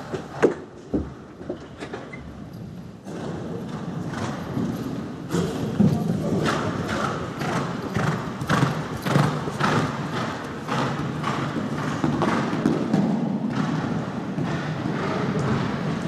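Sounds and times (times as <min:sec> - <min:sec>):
horse hooves thudding: 0:00.0 - 0:16.0.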